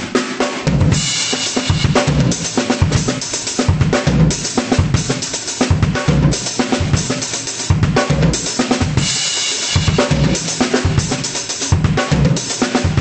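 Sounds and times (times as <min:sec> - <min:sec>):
drum kit groove: 0:00.0 - 0:13.0.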